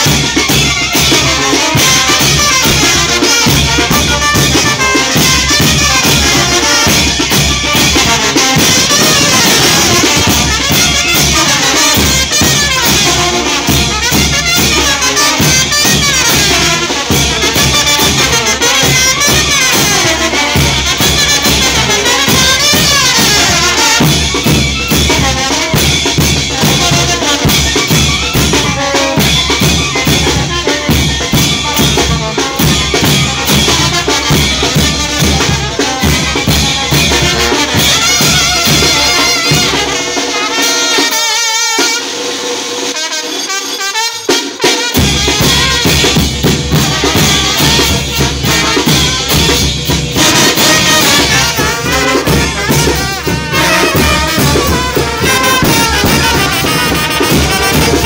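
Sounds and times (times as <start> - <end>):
bass drums: 0.0 - 40.2, 44.8 - 58.0
brass band playing: 0.0 - 58.0.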